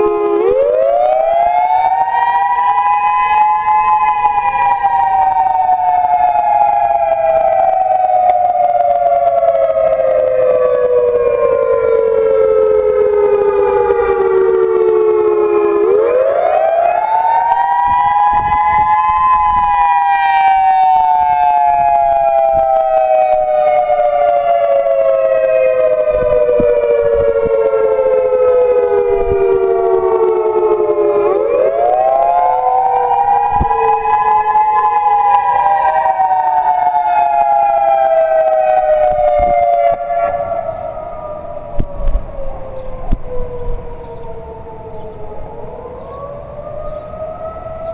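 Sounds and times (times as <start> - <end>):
tornado warning siren wailing: 0.0 - 47.9.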